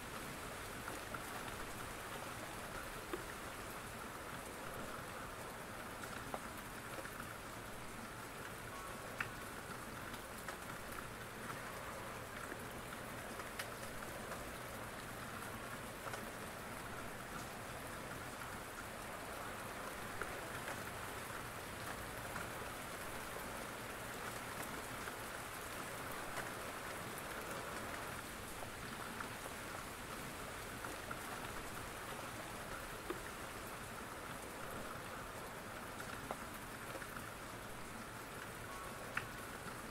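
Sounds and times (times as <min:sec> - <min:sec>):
steady rain hiss: 0:00.0 - 0:39.9
raindrops ticking: 0:00.1 - 0:39.9.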